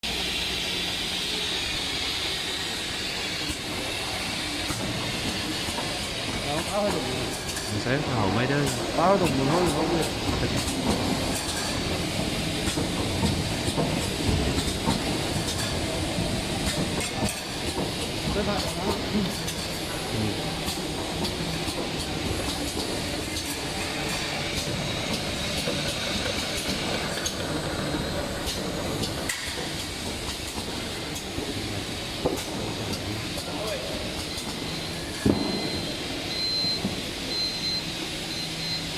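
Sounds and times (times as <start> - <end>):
capping machine running: 3.4 - 38.8.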